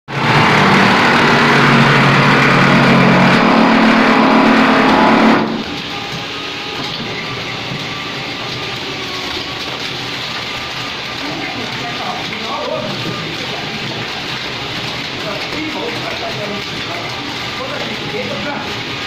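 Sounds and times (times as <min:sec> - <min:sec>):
wall-rendering machine motor hum: 0:00.1 - 0:19.0.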